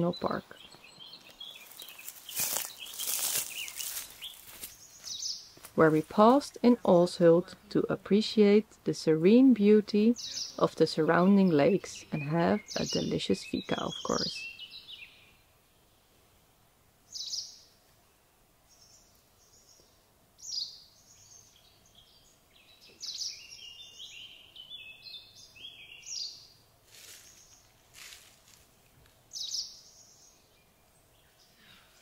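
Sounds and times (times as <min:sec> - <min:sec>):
songbirds singing: 0:00.0 - 0:28.2, 0:28.8 - 0:32.0
faint outdoor background noise: 0:00.0 - 0:32.0.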